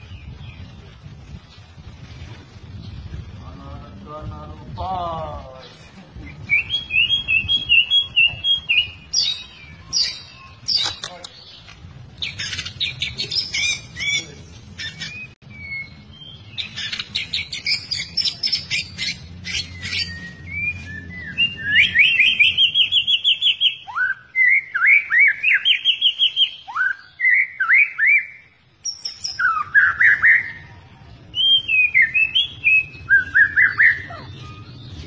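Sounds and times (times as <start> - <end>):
bird singing trills and whistles: 5.6 - 11.6, 12.2 - 35.0.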